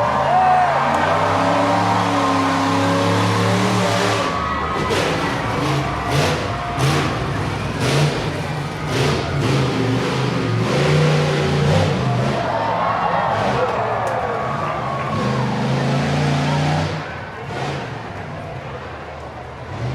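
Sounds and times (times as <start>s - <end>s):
truck engine revving: 0.0s - 19.9s.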